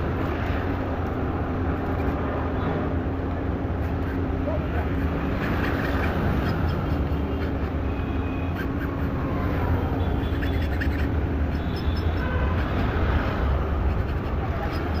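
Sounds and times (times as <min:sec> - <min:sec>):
engine and traffic rumble: 0:00.0 - 0:15.0.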